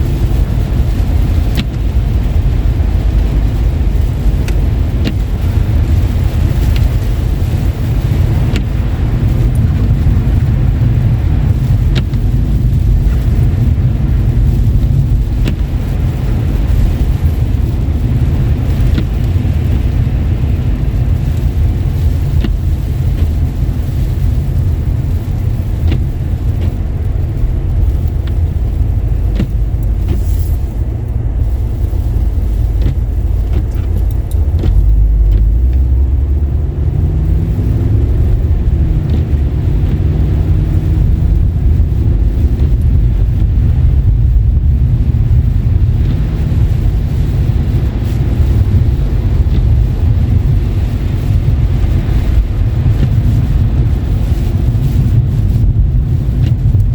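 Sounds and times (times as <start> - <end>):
car engine and tyres on wet road: 0.0 - 56.9.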